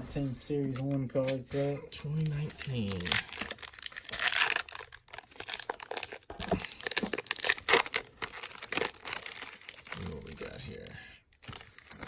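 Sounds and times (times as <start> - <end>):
foil wrapper crinkling: 1.2 - 12.0.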